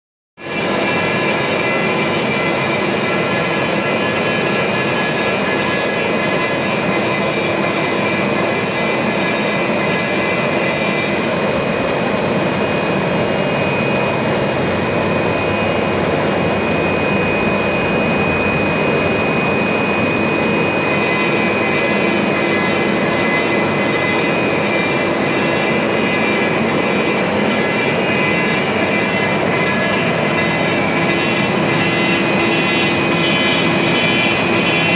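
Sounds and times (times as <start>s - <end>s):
cnc router cutting plastic: 0.4s - 34.9s.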